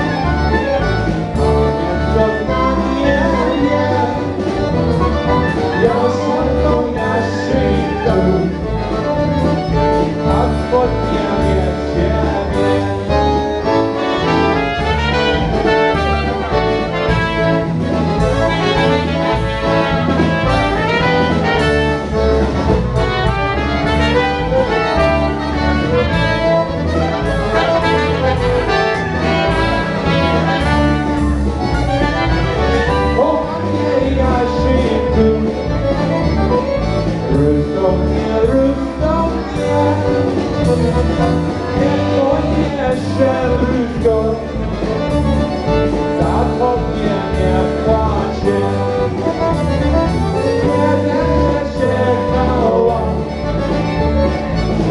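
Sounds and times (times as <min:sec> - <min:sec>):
horns playing tune: 0:00.0 - 0:54.9
polka band playing: 0:00.0 - 0:54.9.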